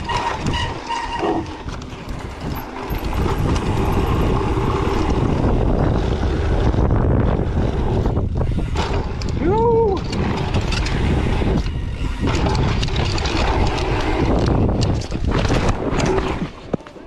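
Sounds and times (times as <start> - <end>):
low rumble of bike on trail: 0.0 - 17.0
wind buffeting microphone: 0.0 - 17.0.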